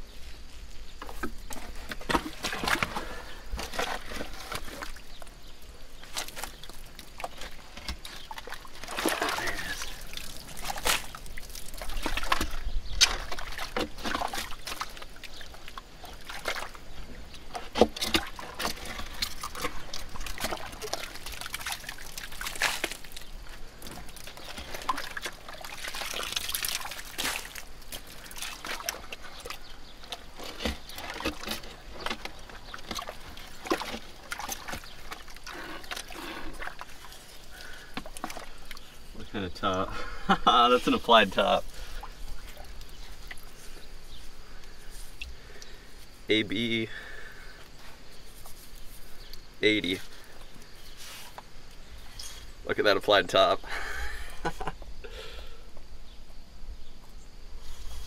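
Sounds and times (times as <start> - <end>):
muddy water sloshing: 0.8 - 54.8.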